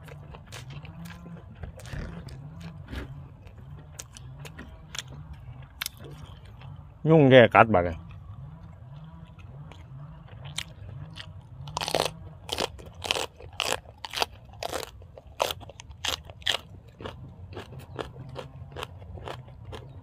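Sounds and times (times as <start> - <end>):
chewing crunchy food: 0.0 - 6.9, 8.0 - 20.0.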